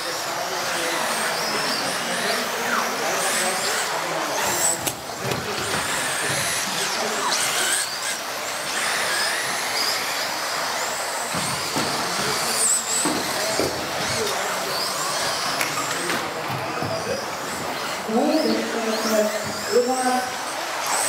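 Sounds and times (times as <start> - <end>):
model car motors whining: 0.0 - 21.0.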